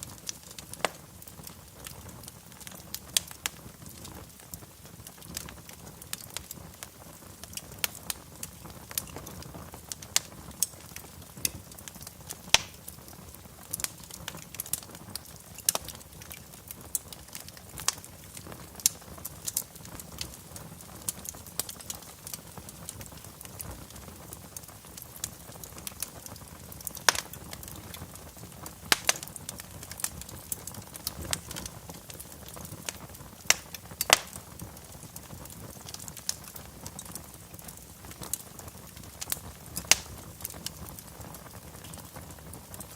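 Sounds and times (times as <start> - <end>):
steady hiss of burning: 0.0 - 42.9
wood fire crackling: 0.0 - 42.9.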